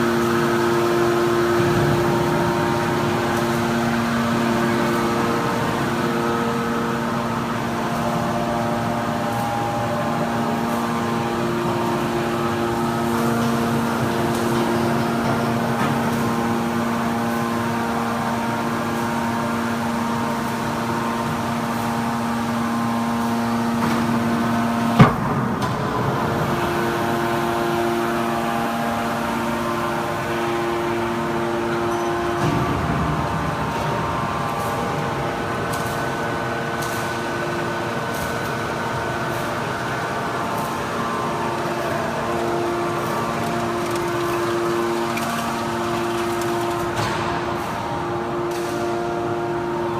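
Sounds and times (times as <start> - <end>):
hydraulic machine hum: 0.0 - 49.9.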